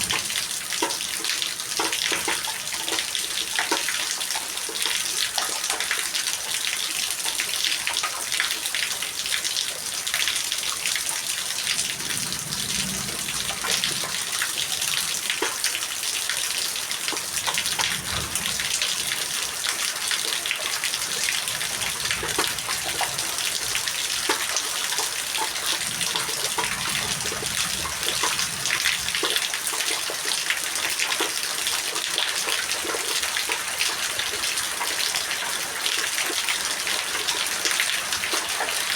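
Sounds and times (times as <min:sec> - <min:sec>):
steady rainfall hiss: 0:00.0 - 0:07.1, 0:07.7 - 0:38.9
raindrops splashing close by: 0:00.0 - 0:38.9.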